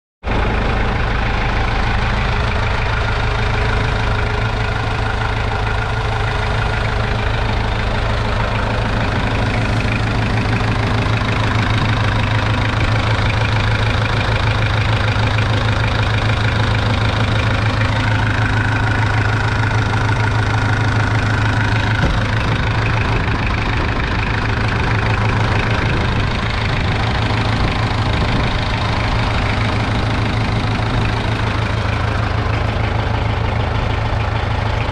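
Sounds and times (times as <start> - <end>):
tractor diesel engine idling: 0.2 - 34.9.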